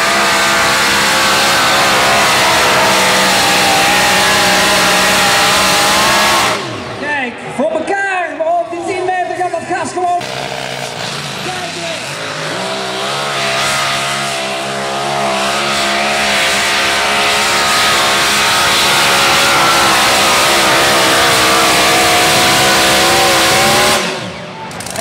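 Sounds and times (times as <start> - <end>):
racing engine at full throttle: 0.0 - 7.4, 9.9 - 25.0.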